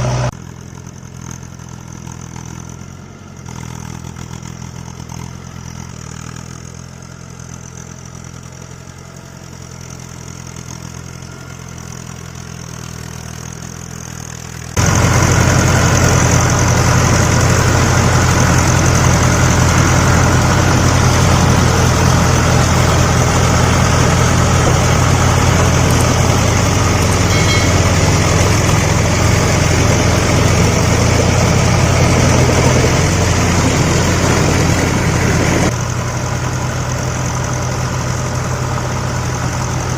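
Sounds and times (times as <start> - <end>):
loud engine running: 0.0 - 39.9
vehicle engine idling: 0.0 - 39.9.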